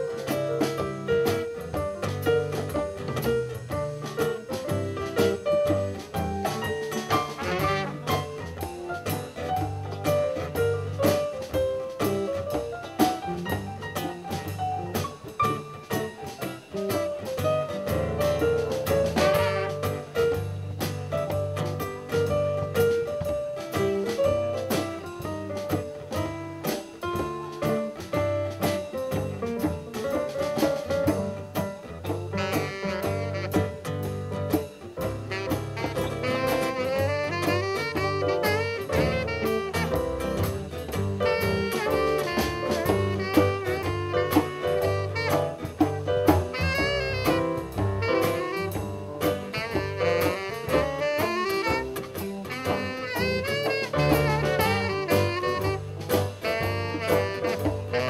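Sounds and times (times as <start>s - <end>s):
drum kit beat: 0.0s - 58.0s.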